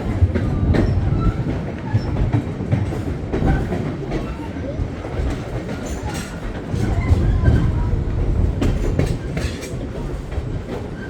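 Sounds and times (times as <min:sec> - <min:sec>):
train low rumble: 0:00.0 - 0:11.0
train wheels clacking on track: 0:00.0 - 0:11.0.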